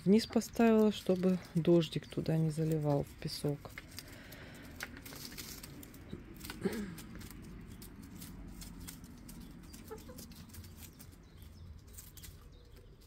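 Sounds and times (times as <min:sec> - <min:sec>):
light clicks and scratching: 0:00.1 - 0:13.0.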